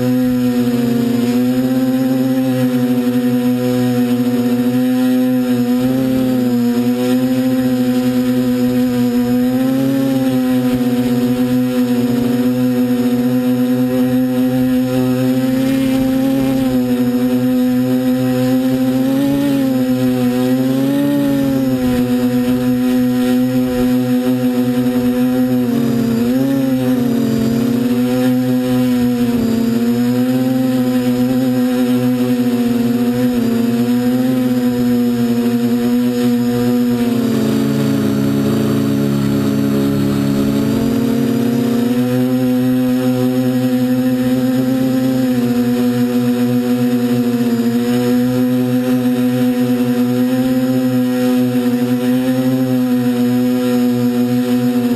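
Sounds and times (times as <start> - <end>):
drone propellers humming: 0.0 - 54.9.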